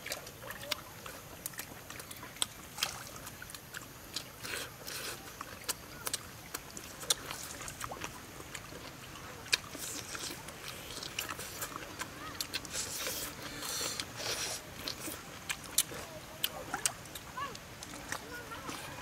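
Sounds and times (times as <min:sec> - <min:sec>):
mouth clicks and lip smacks: 0:00.0 - 0:18.9
person chewing food: 0:00.0 - 0:19.0.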